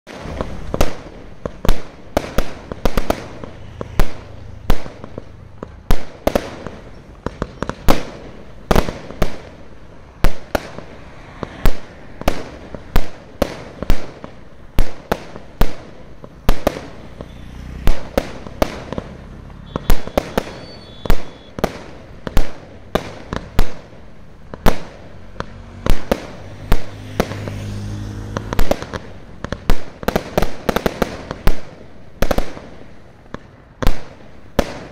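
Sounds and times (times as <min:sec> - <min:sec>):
fireworks bangs: 0:00.1 - 0:34.9.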